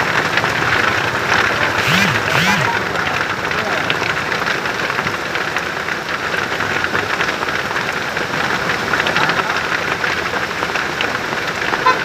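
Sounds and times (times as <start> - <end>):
heavy rain falling: 0.0 - 1.9, 2.6 - 12.0.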